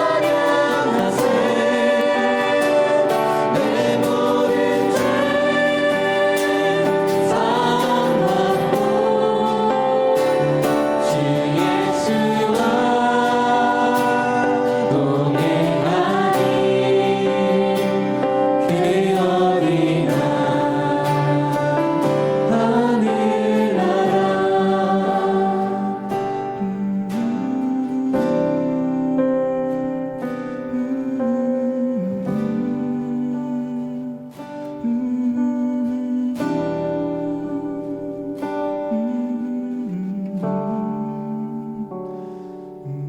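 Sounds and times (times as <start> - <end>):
group singing worship song: 0.0 - 43.0
instrumental accompaniment: 0.0 - 43.0.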